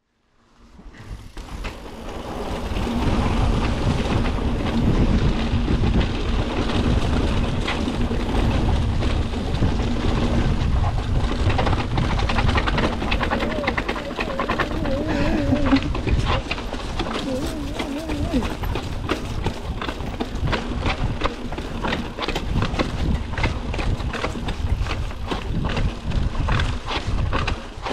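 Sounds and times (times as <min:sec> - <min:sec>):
bike rattling over bumps: 0:00.6 - 0:27.9
tyres rumbling over trail: 0:00.8 - 0:27.9
wind buffeting microphone: 0:01.1 - 0:27.9.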